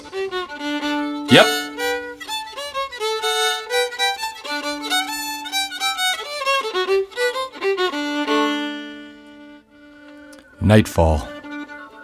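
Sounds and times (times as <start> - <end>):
fiddle tune: 0.0 - 12.0.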